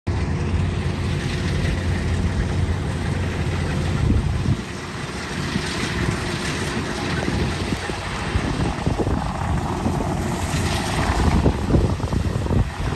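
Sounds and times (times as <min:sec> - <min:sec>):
diesel engine humming: 0:00.1 - 0:12.7.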